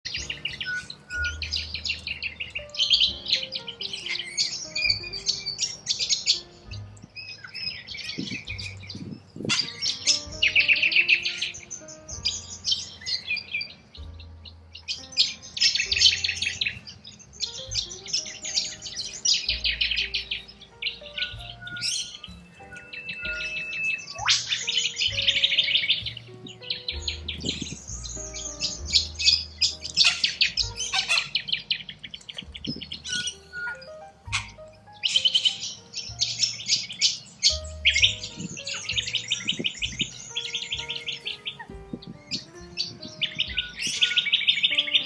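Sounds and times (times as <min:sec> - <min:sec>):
birds chirping and chattering: 0:00.0 - 0:45.0
slow background music: 0:00.1 - 0:45.0.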